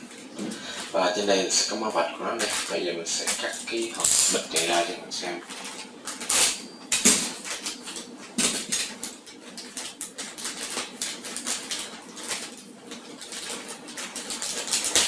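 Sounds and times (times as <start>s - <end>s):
plastic bag crinkling and tearing: 0.1s - 15.0s.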